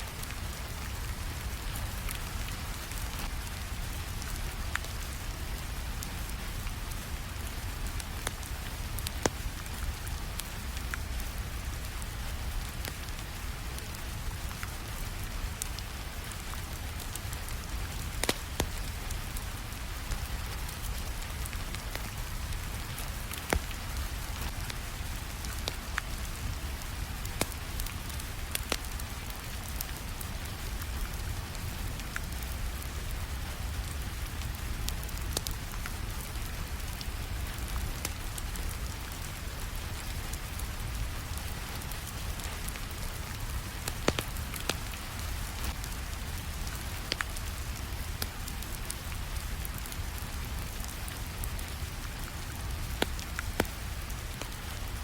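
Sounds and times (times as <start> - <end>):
steady rainfall: 0.0 - 55.0
wood fire crackling: 0.1 - 55.0.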